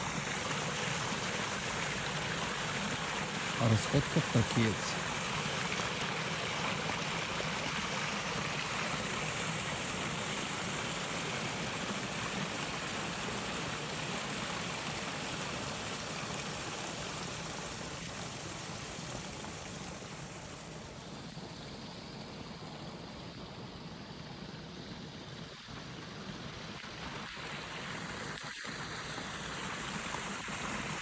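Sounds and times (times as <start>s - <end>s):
stream water flowing: 0.0s - 31.0s.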